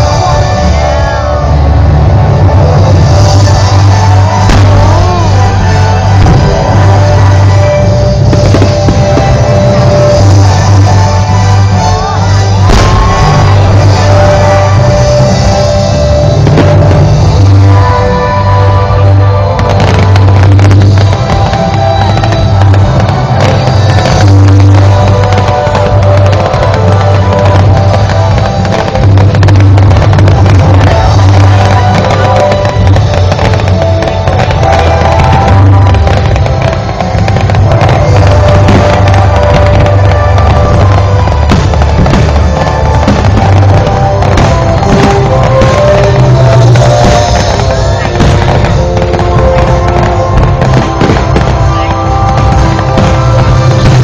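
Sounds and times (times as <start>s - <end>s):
firework bangs and crackle: 0.0s - 54.0s
loud music with strong bass: 0.0s - 54.0s.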